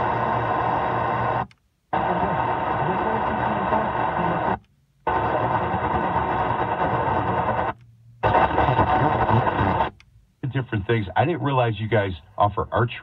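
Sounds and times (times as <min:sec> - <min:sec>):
faint radio signals: 0:00.0 - 0:13.0
radio static hissing: 0:00.0 - 0:13.0.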